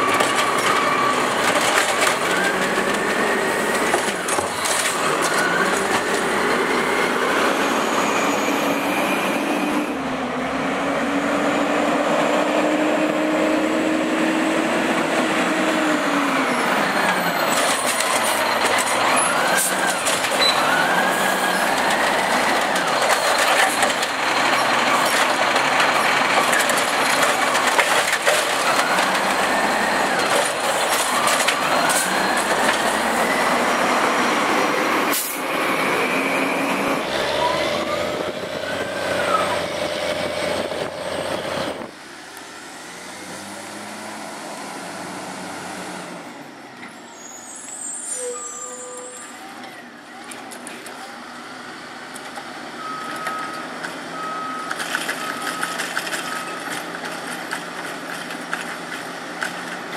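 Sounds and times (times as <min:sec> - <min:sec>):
distant garbage truck: 0:00.0 - 0:59.9
garbage truck engine and compactor: 0:00.0 - 0:59.9.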